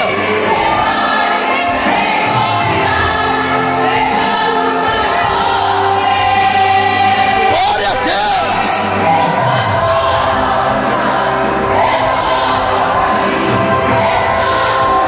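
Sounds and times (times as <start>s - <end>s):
women singing together: 0.0s - 15.0s.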